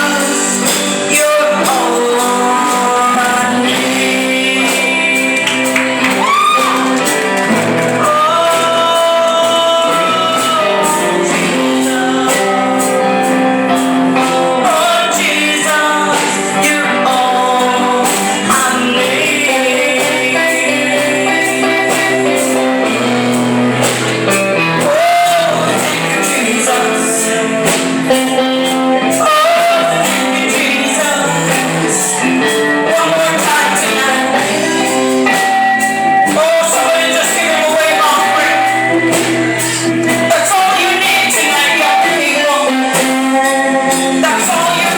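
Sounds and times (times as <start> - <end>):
instrumental accompaniment: 0.0 - 44.9.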